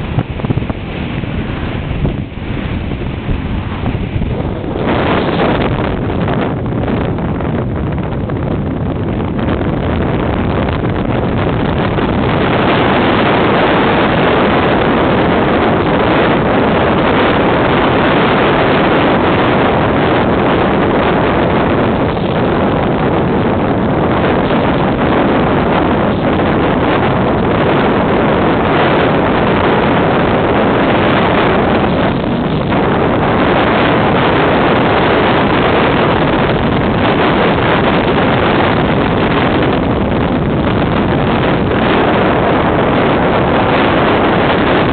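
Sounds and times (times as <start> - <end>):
wind and road noise: 0.0 - 44.9
wind buffeting microphone: 0.0 - 44.9.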